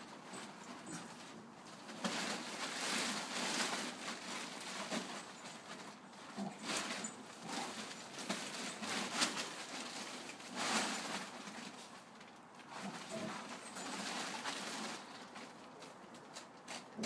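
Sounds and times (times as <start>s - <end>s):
plastic tarpaulin rustling: 0.0s - 17.0s.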